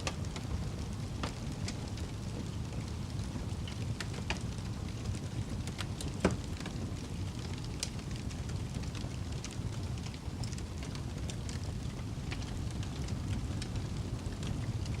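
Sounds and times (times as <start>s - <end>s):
fire rumbling and crackling: 0.0s - 15.0s.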